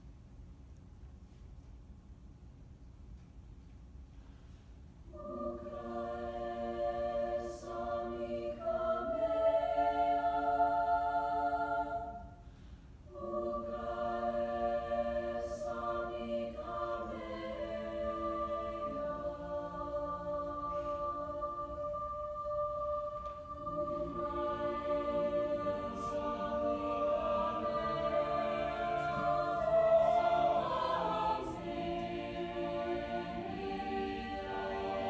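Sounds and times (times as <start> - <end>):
choir singing a cappella: 5.1 - 12.5, 13.1 - 35.0.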